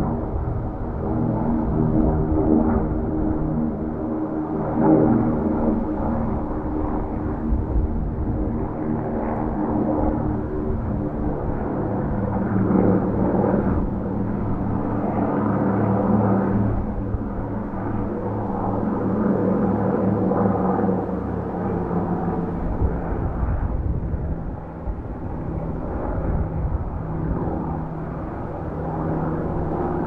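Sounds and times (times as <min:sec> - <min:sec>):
propeller plane engines droning: 0:00.0 - 0:30.0.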